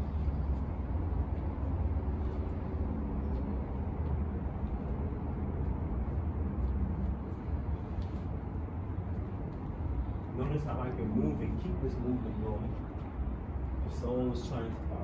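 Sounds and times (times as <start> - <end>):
outdoor low rumble: 0.0 - 15.0.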